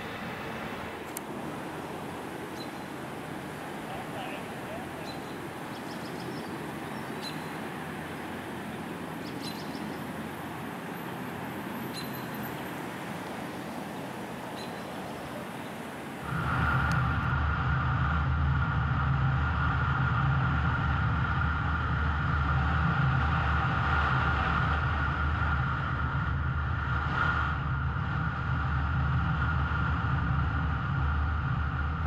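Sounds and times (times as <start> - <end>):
engine rumbling: 0.0 - 32.0.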